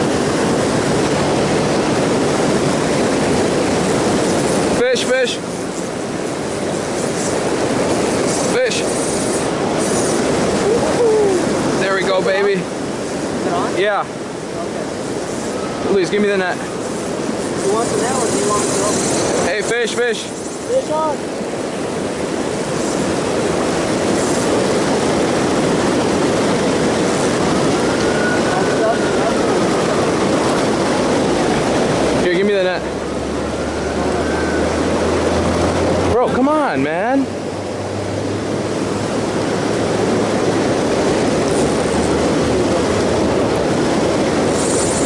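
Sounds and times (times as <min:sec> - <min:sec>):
water rushing over dam: 0:00.0 - 0:45.0.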